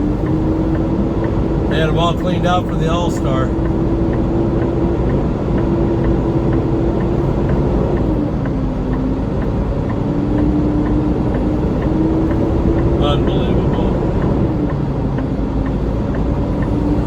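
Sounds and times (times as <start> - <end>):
vehicle engine and road drone: 0.0 - 17.0.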